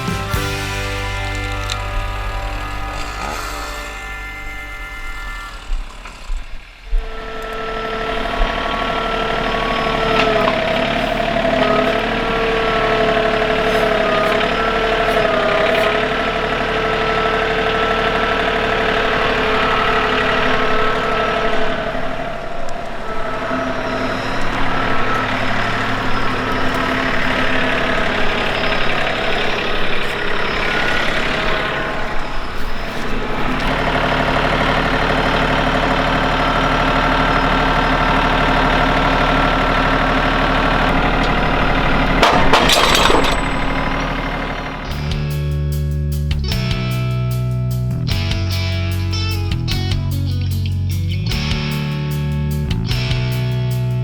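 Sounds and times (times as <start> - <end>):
wavering tones: 0.0 - 45.2
engine running steadily: 0.0 - 54.0.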